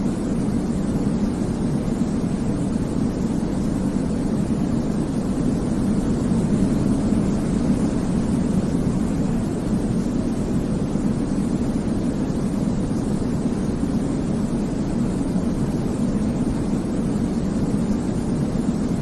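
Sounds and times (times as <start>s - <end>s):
deep white noise hiss: 0.0s - 19.0s.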